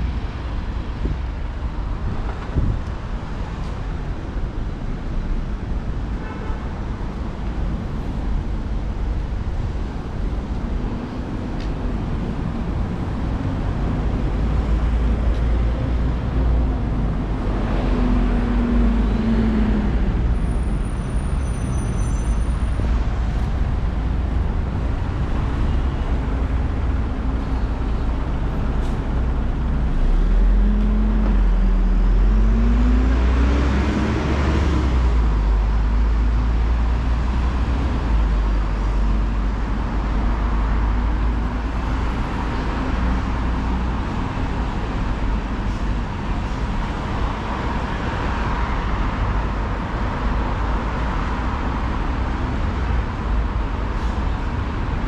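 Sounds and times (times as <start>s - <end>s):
vehicles driving past: 0.0s - 55.0s.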